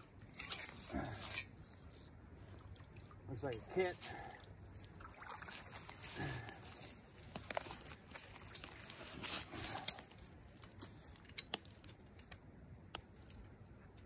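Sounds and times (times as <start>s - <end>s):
rustling and scraping of leaves: 0.0s - 2.8s, 3.5s - 12.4s.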